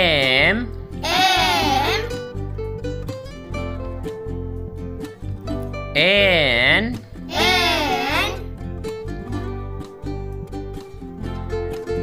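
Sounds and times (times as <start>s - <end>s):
steady bass: 0.0s - 12.0s.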